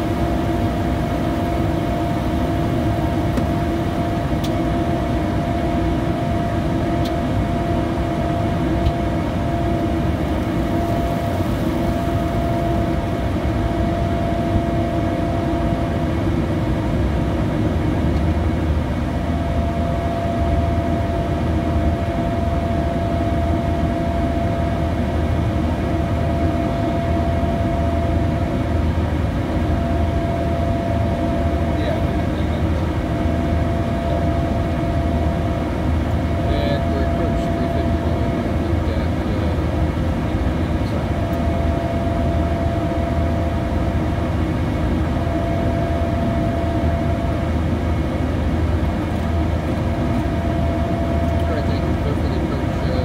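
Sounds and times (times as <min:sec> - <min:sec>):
jet engines droning: 0:00.0 - 0:53.0
steady hum: 0:00.0 - 0:53.0.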